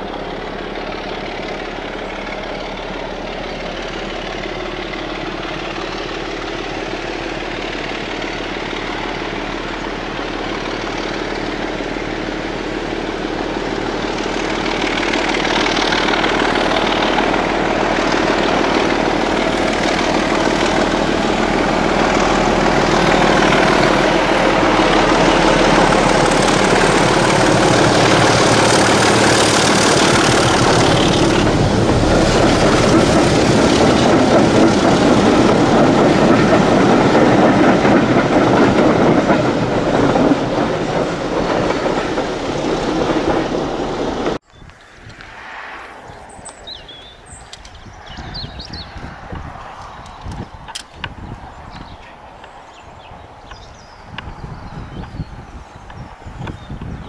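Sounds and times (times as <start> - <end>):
diesel locomotive engine droning: 0.0 - 57.0
train coaches rolling past: 0.0 - 57.0.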